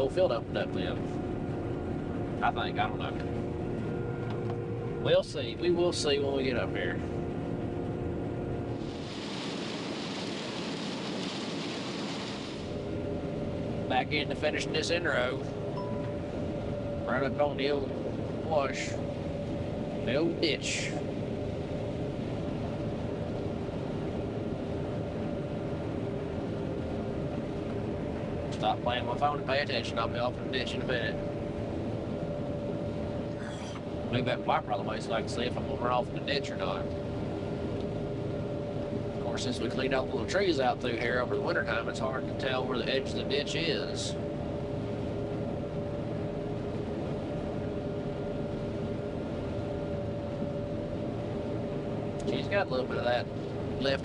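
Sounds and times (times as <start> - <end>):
combine harvester machinery drone: 0.0 - 54.0.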